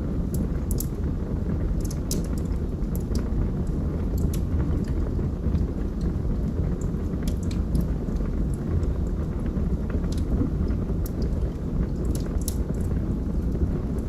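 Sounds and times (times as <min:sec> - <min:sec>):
fire crackles and pops: 0:00.0 - 0:14.0
low rumble of fire flames: 0:00.0 - 0:14.0.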